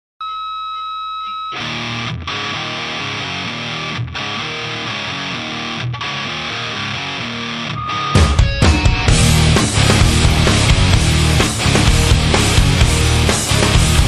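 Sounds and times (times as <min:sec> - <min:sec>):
rock music with distorted guitar: 0:01.5 - 0:14.0.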